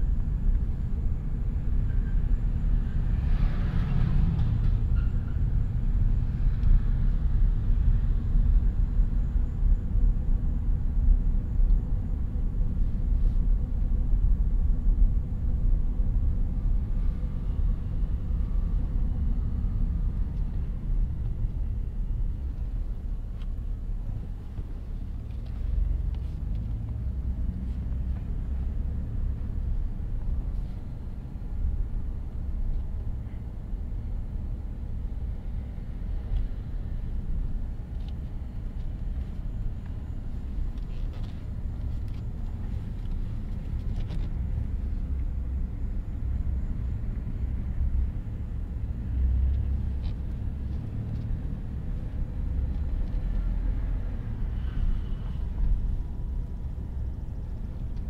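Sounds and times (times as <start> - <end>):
car road and tyre rumble: 0.0 - 58.0.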